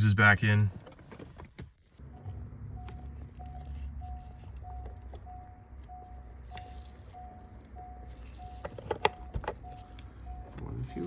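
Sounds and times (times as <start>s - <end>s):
car warning chime beeping: 2.0s - 11.0s.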